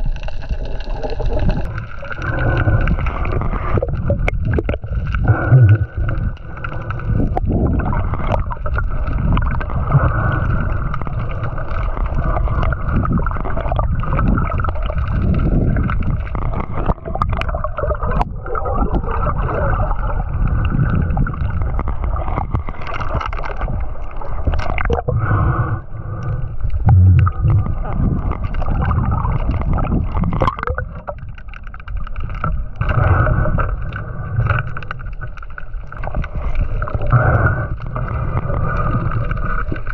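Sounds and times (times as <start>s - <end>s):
underwater rushing and gurgling: 0.0s - 39.9s.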